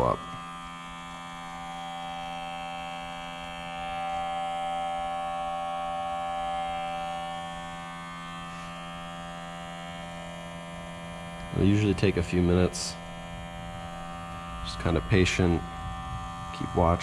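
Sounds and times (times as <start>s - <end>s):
electric air pump buzzing: 0.0s - 17.0s.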